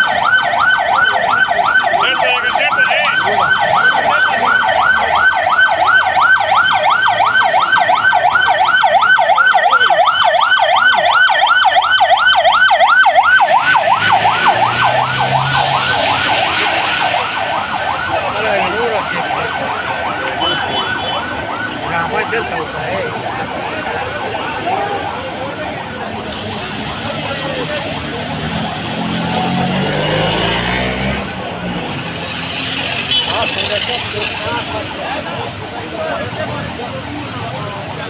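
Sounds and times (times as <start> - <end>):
ambulance siren yelping: 0.0 - 31.4.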